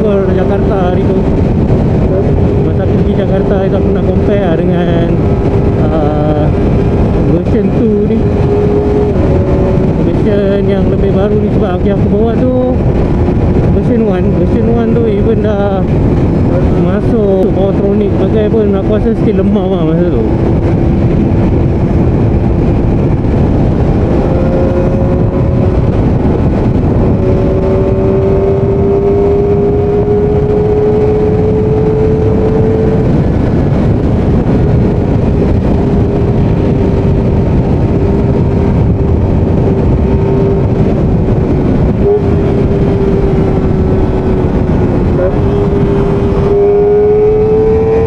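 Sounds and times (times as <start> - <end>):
motorcycle engine at high revs: 0.0 - 48.0
wind and road noise: 0.0 - 48.0.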